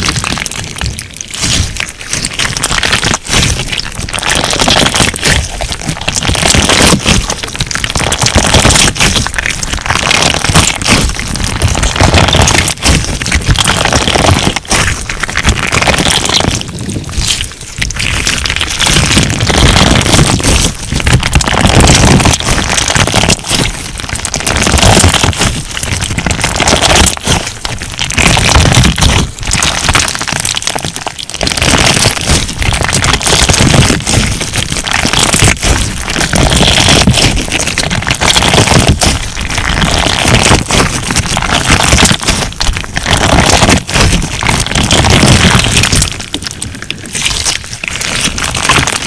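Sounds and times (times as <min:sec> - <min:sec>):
slime crackling pops: 0:00.0 - 0:49.0.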